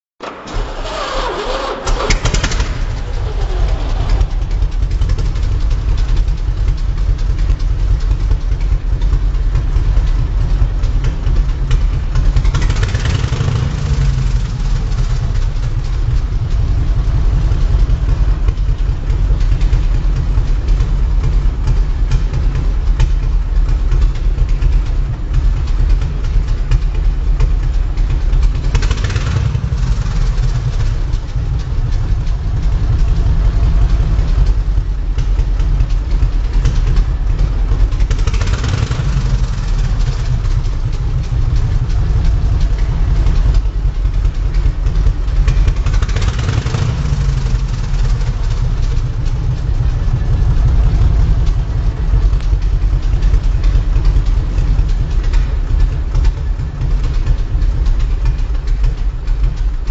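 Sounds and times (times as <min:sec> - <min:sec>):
motorcycle engine idling: 0:00.2 - 0:59.9.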